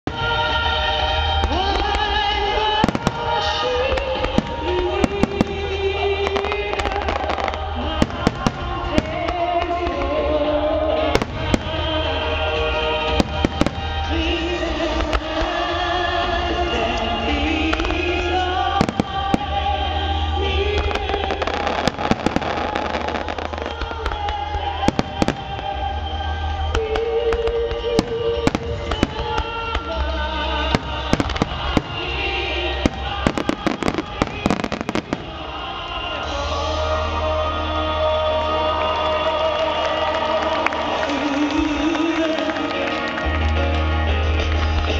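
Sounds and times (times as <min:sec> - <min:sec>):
fireworks bursting: 0:00.0 - 0:43.2
loud music with held melody: 0:00.0 - 0:44.9.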